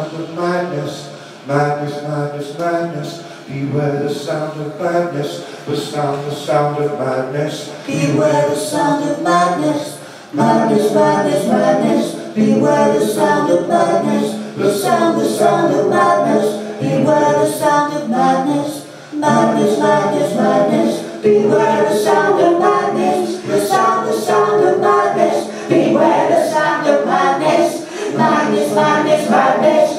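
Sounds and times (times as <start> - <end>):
voices singing a cappella: 0.0 - 29.9.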